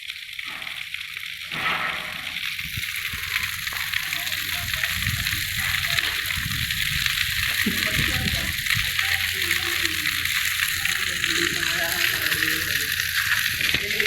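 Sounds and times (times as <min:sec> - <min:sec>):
waterfall rushing: 0:01.8 - 0:14.0.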